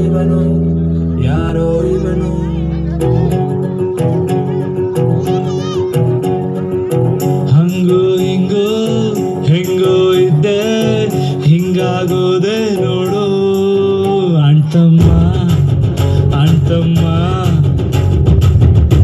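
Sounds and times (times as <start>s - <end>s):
loud music with wavering melody: 0.0s - 19.0s
steady bass: 0.0s - 19.0s.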